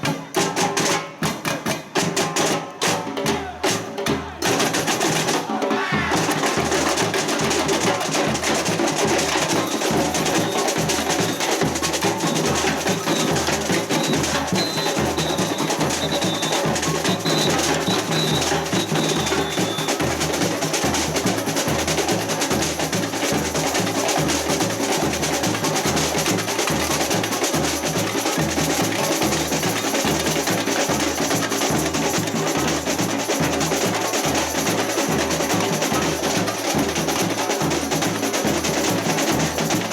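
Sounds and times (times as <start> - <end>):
rolling snare drums: 0.0 - 39.9.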